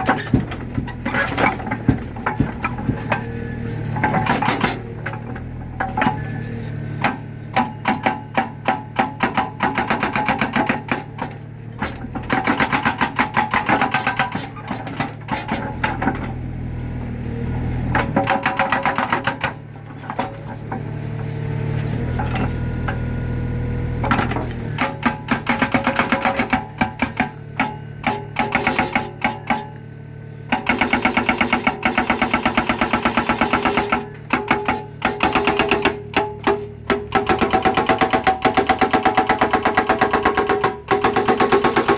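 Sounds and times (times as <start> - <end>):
hydraulic breaker hammering concrete: 0.0 - 16.5, 17.8 - 20.9, 24.0 - 41.9
excavator engine hum: 0.0 - 41.9.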